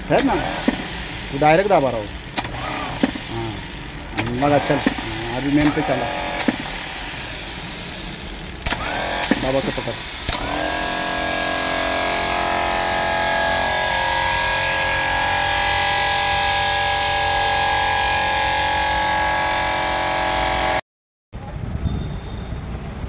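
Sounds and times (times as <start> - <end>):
starter motor whining: 0.0 - 20.8.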